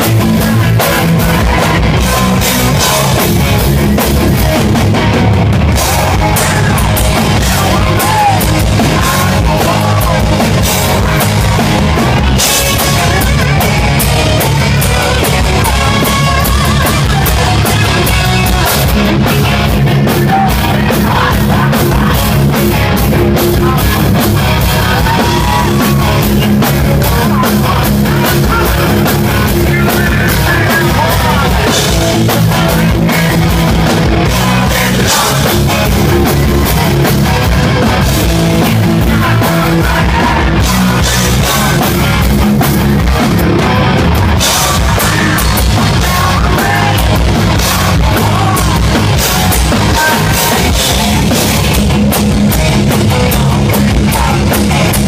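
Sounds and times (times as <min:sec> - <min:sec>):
bass guitar: 0:00.0 - 0:55.0
distorted electric guitars: 0:00.0 - 0:55.0
man singing lead vocal: 0:00.0 - 0:55.0
pounding drum kit: 0:00.0 - 0:55.0.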